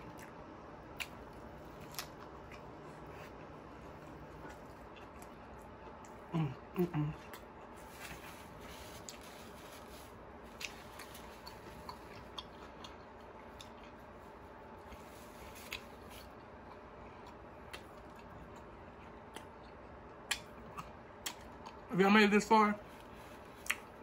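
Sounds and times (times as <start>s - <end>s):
faint chewing of food: 0.0s - 21.9s, 22.8s - 24.0s.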